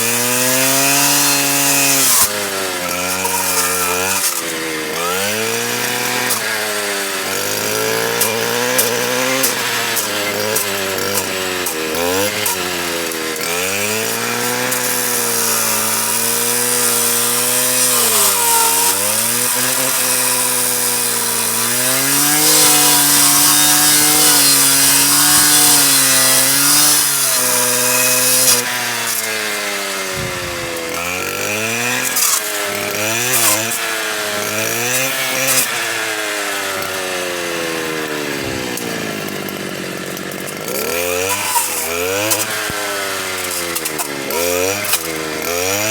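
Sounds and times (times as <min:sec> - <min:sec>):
power saw cutting wood: 0:00.0 - 0:45.9.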